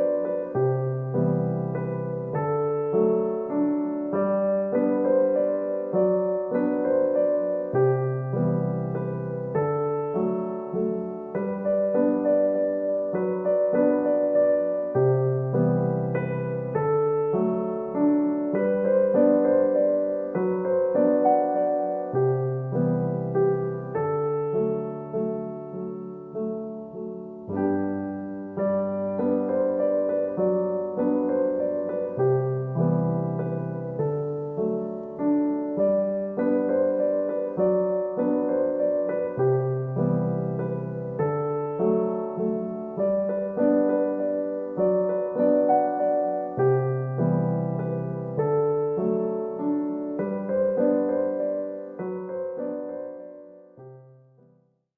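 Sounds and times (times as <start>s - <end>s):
gentle piano melody: 0.0s - 54.9s.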